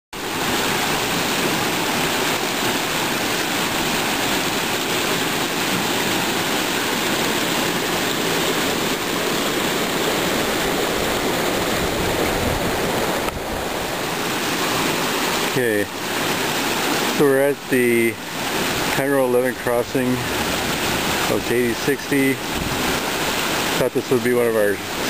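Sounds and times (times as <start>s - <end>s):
water rushing through ditch: 0.2s - 25.0s.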